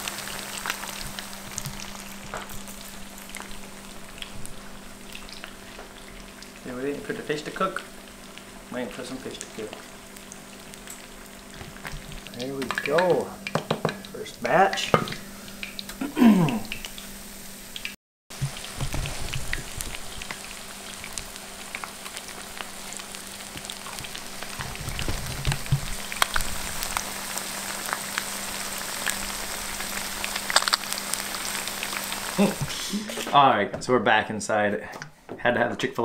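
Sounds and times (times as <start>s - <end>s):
fish deep-frying in oil: 0.0s - 33.3s.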